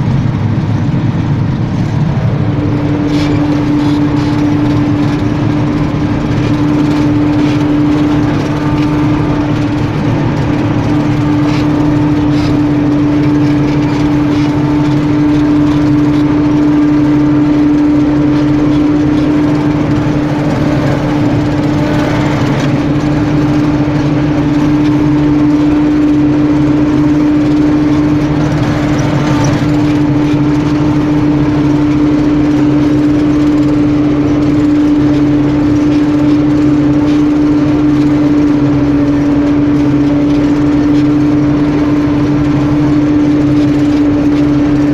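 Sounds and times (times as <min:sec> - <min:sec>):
farm machinery engine humming: 0:00.0 - 0:44.9.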